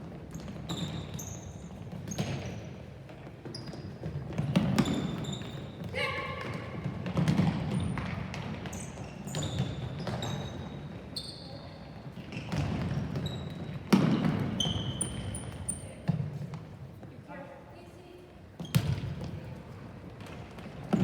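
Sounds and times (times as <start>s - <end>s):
sneakers squeaking on court floor: 0.0s - 17.1s, 18.5s - 21.0s.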